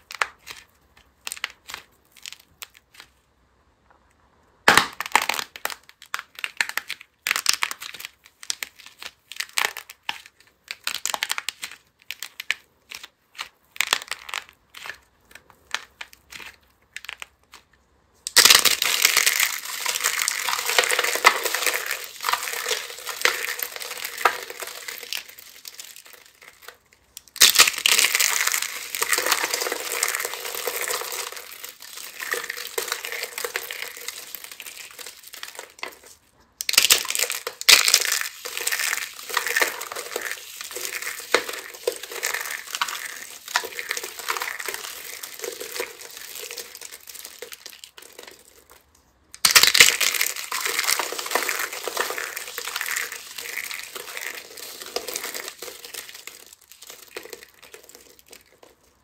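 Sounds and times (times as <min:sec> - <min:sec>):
modelling clay cracking: 0:00.0 - 0:03.2, 0:04.7 - 0:59.0
dried soap crunching: 0:04.7 - 0:17.7, 0:18.3 - 0:59.0.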